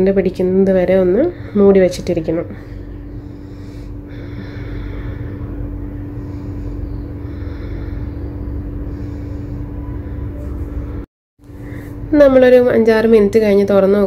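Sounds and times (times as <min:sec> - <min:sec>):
low hum and rumble: 0:00.0 - 0:14.0.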